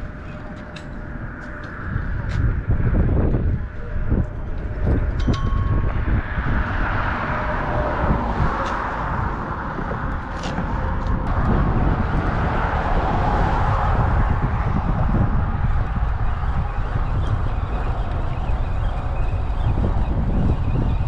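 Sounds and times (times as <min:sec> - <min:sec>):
traffic rumble on bridge: 0:00.0 - 0:21.0.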